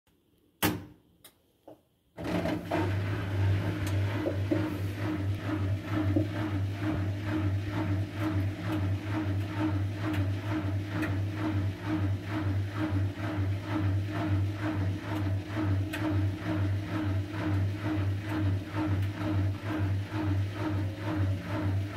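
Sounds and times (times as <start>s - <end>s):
washing machine motor humming: 2.2s - 21.9s.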